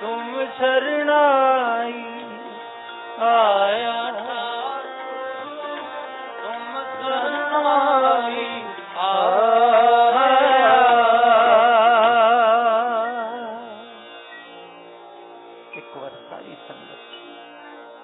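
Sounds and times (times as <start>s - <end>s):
devotional music melody: 0.0s - 18.0s
steady drone: 1.9s - 18.0s.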